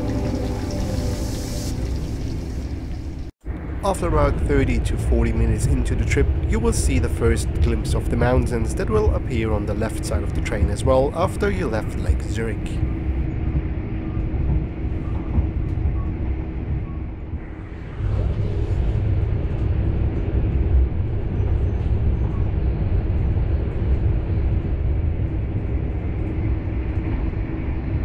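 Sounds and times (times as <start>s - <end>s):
wheels rumbling on rails: 0.0s - 28.0s.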